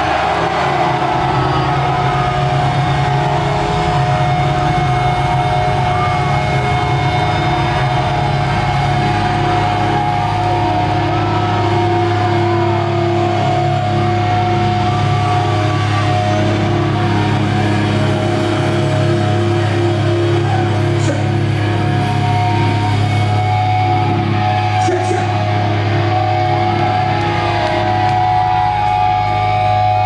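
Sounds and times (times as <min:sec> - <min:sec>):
amp hum: 0:00.0 - 0:30.0
amplified guitars droning: 0:00.0 - 0:30.0
guitar feedback: 0:00.0 - 0:30.0.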